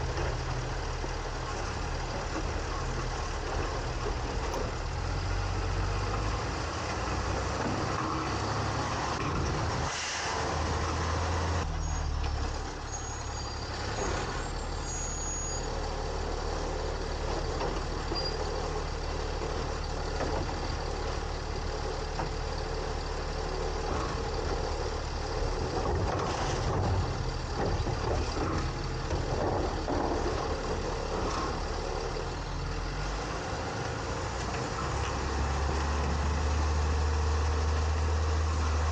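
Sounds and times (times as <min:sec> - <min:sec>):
diesel engine hum: 0:00.0 - 0:38.9.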